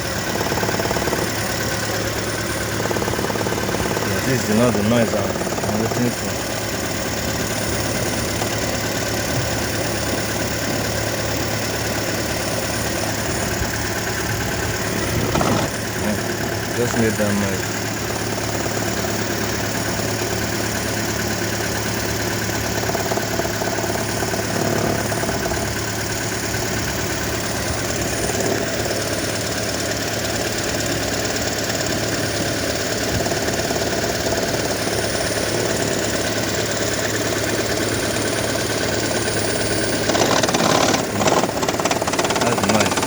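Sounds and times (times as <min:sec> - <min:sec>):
car engine running: 0:00.0 - 0:43.0
heavy fast rattle: 0:00.0 - 0:43.0.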